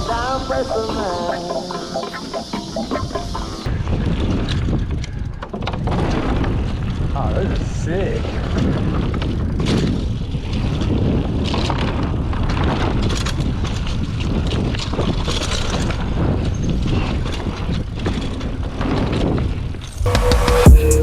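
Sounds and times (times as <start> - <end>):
wind rushing over microphone: 0.0 - 20.2.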